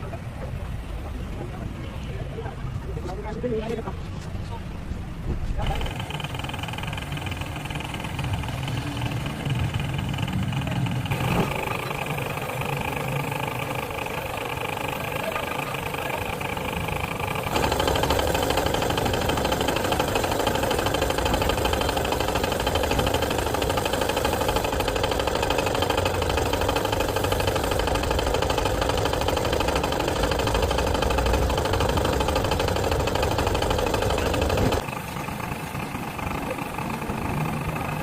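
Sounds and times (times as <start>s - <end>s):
engine idling with fast clatter: 0.0s - 38.0s.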